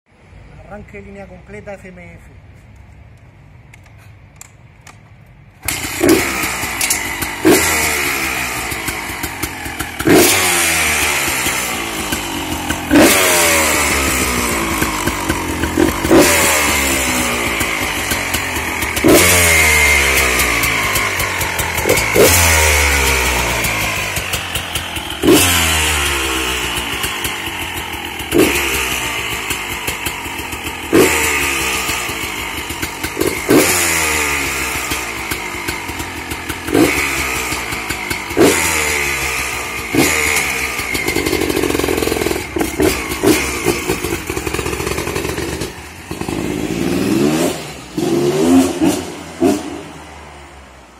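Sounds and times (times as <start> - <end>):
two-stroke motorcycle engine revving: 5.6 - 50.9.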